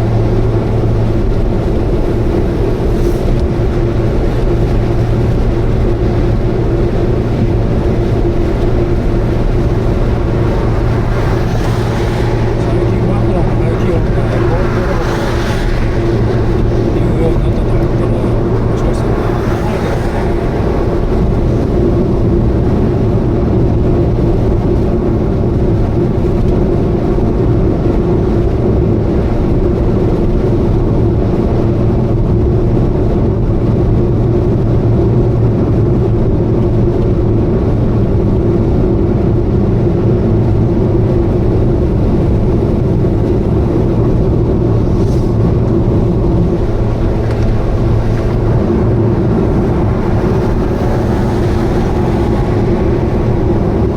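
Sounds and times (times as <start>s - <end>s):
abnormal engine noise: 0.0s - 53.9s
car engine drone: 0.0s - 53.9s
road noise: 0.0s - 53.9s.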